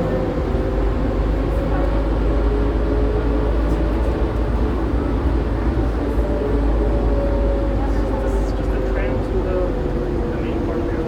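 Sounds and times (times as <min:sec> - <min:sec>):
tram rumble: 0:00.0 - 0:11.0.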